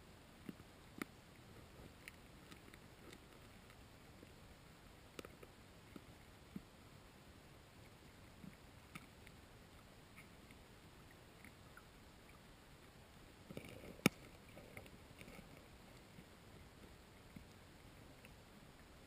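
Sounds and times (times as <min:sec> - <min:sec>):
underwater clicks and crunches: 0:00.4 - 0:06.8, 0:08.0 - 0:19.0.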